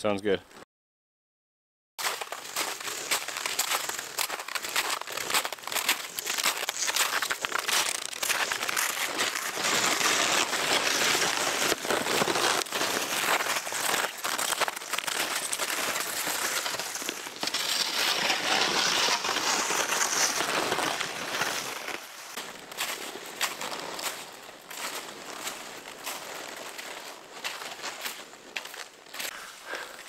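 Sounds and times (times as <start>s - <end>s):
snowshoes crunching on snow: 2.0s - 30.0s
sleds scraping along snow: 2.2s - 30.0s.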